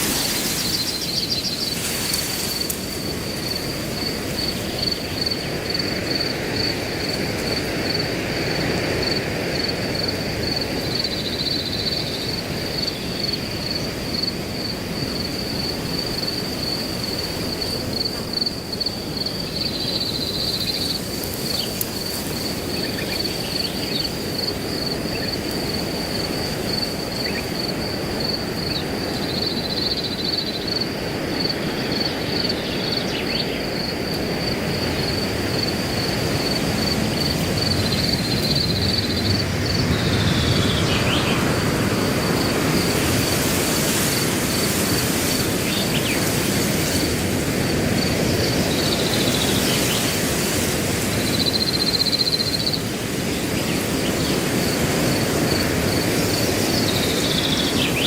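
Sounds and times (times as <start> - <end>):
cricket chirping: 0.0 - 58.0
wind rushing through grass: 0.0 - 58.0.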